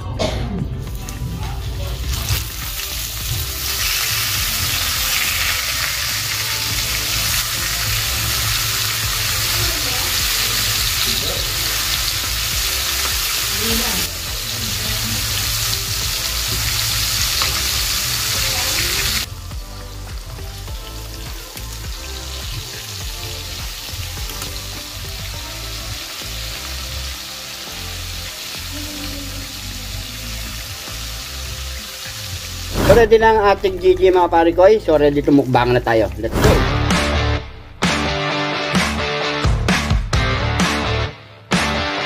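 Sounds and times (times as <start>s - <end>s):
fish sizzling in hot oil: 1.0s - 36.2s.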